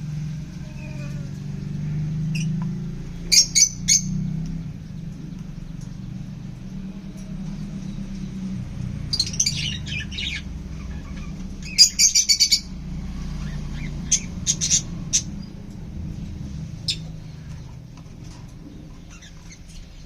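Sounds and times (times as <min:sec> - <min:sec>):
pet birds chirping and squawking: 0:00.3 - 0:20.0.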